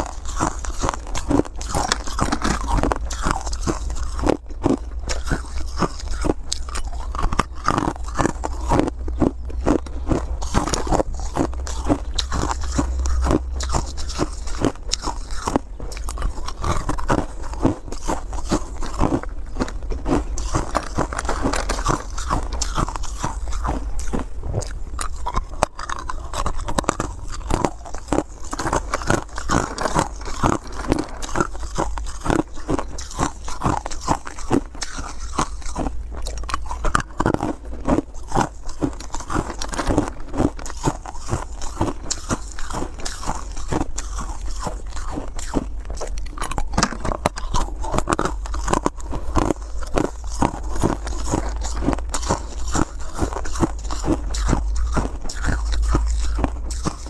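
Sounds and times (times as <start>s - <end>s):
chewing ice crunches: 0.0s - 57.0s
steady low hum: 0.0s - 57.0s.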